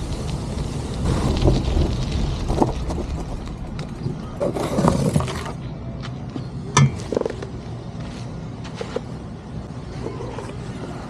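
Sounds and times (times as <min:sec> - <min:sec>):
bicycle rolling: 0:00.0 - 0:11.0
road rumble: 0:00.0 - 0:11.0.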